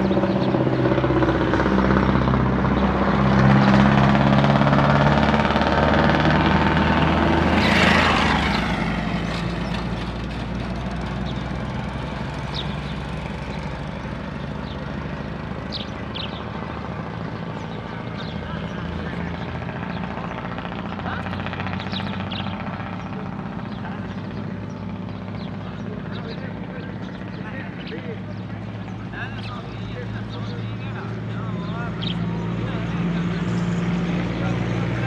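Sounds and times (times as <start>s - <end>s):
vehicle engine droning past: 0.0s - 35.0s.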